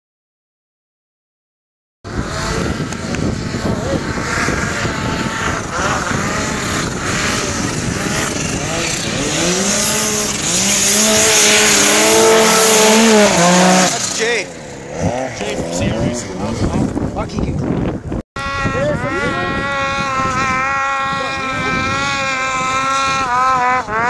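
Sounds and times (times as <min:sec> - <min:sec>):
snowmobile engine revving: 0:02.1 - 0:17.4, 0:18.4 - 0:24.0.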